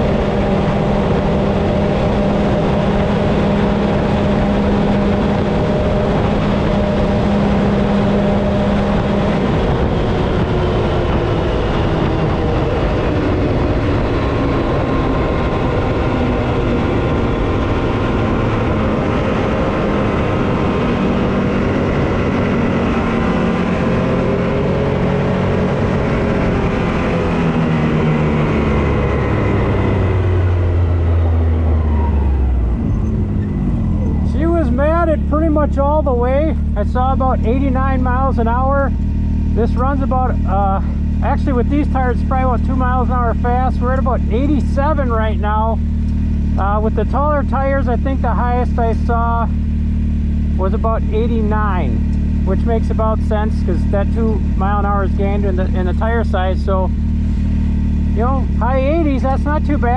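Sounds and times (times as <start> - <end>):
engine running at high pitch: 0.0 - 59.9
road and wind noise: 0.0 - 59.9.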